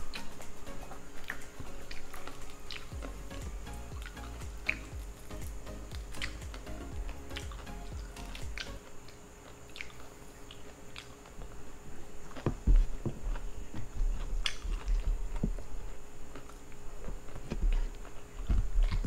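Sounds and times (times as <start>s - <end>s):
chewing: 0.9s - 3.2s, 4.0s - 5.3s, 5.9s - 11.6s, 12.3s - 19.0s.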